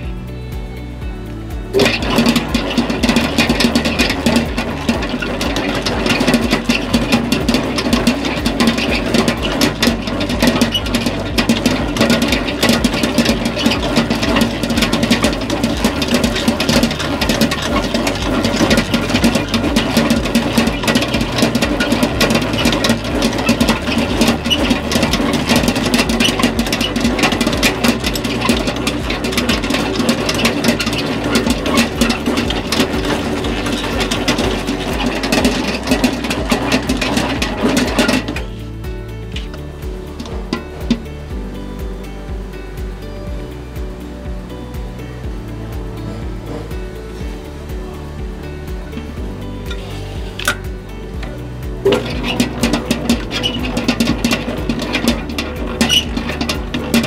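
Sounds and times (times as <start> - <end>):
dough mixer motor rattling: 1.7 - 41.5, 45.8 - 57.0.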